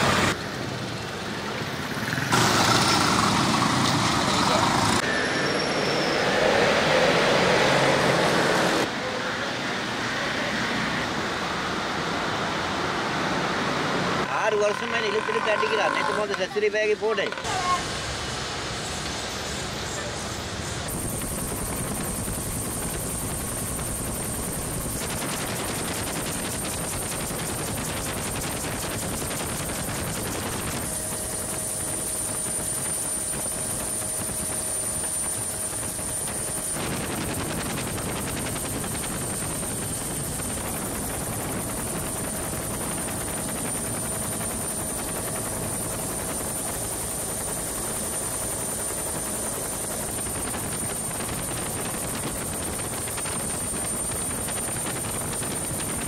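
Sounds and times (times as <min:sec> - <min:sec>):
helicopter engine and rotor noise: 0:00.0 - 0:56.0.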